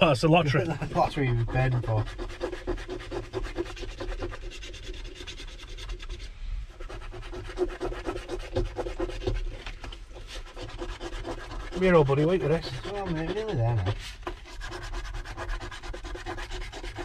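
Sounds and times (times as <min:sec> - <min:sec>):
coin scratching a scratch card: 0:00.4 - 0:17.0.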